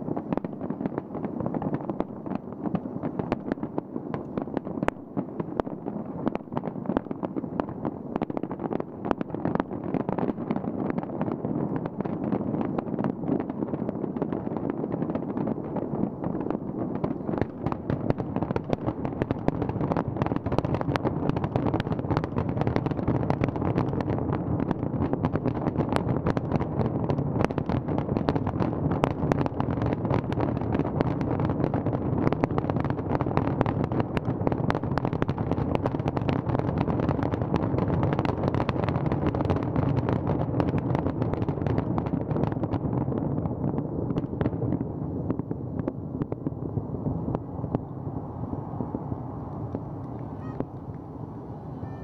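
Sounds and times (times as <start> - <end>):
fireworks pops and crackles: 0.0 - 52.0.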